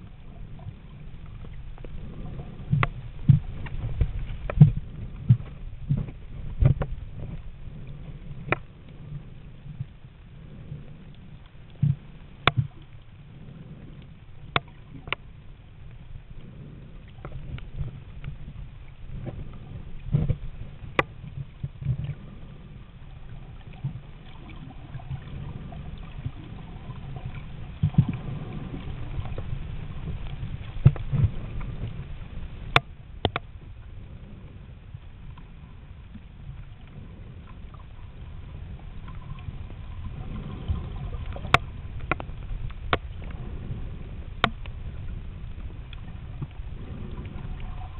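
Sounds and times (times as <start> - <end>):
underwater rumble of moving water: 0.0 - 47.9.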